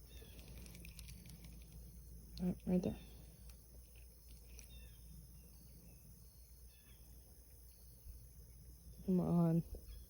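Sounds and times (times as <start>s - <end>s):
faint pond-side ambience: 0.0s - 10.0s.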